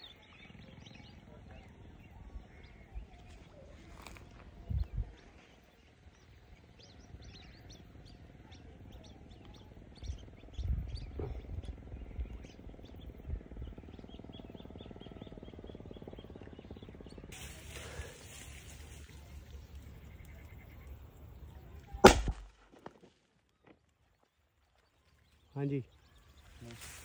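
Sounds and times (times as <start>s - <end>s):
birds chirping: 0.0s - 22.9s, 23.5s - 27.0s.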